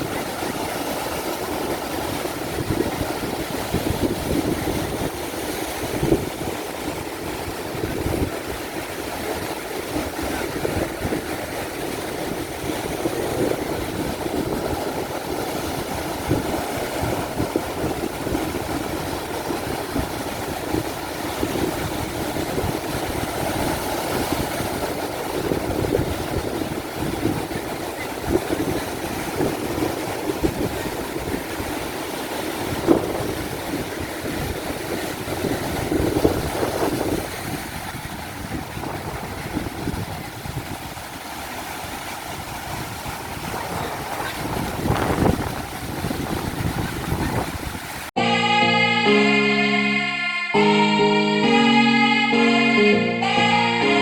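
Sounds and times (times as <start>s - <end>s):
wind buffeting microphone: 0.0s - 48.1s
ocean surf breaking: 0.0s - 54.0s.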